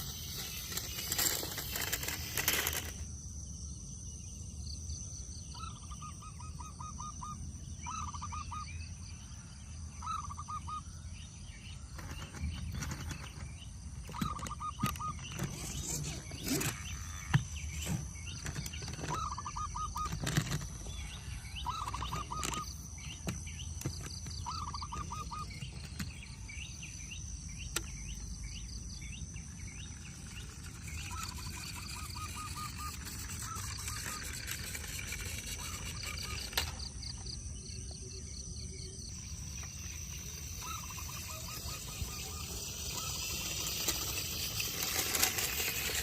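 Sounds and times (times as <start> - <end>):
birds trilled chirps: 0.0 - 46.0.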